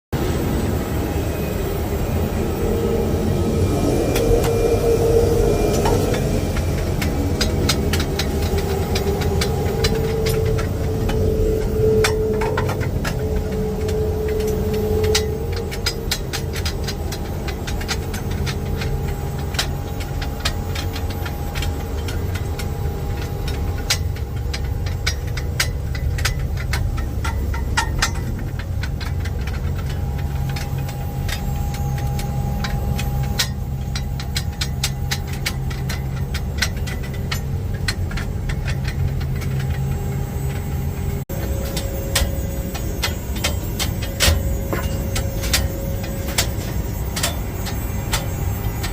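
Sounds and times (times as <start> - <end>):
engine rumbling: 0.1 - 48.9
sharp clicks and rattles: 4.1 - 48.9.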